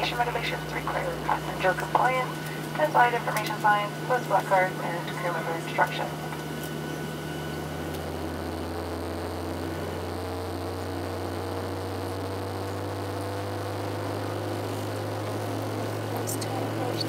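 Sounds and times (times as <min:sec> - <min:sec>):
faint steady engine tones: 0:00.0 - 0:17.0
jet engine cabin drone: 0:00.0 - 0:17.0.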